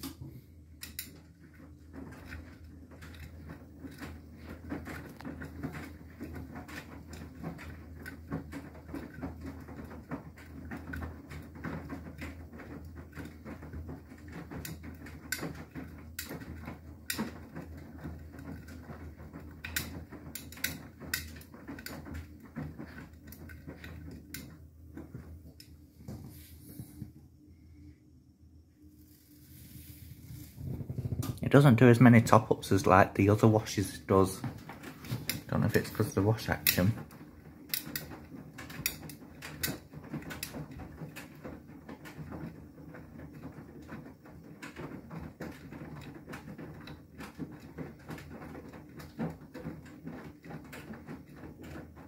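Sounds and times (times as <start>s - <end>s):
wet clothes sloshing in drum: 0.0s - 27.3s, 29.0s - 52.0s
washing machine motor humming: 0.0s - 52.0s.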